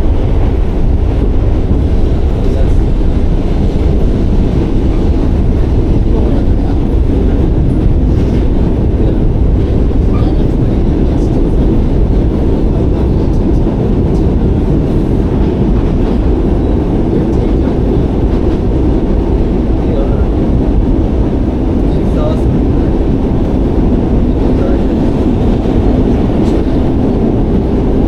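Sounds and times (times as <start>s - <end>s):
subway train rumbling on track: 0.0s - 28.0s.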